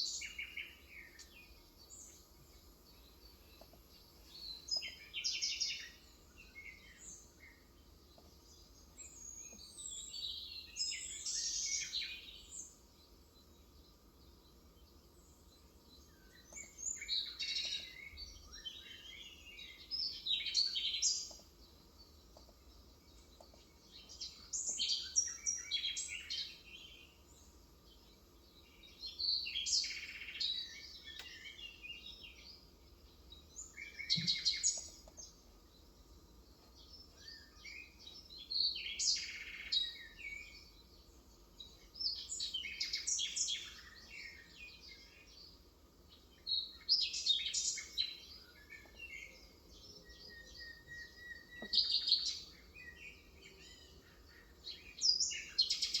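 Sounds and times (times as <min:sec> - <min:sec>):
birds chirping and warbling: 0:00.0 - 0:56.0.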